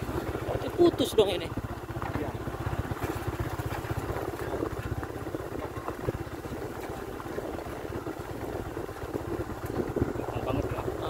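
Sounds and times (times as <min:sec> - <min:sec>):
motorcycle engine low pulsing: 0:00.0 - 0:11.0.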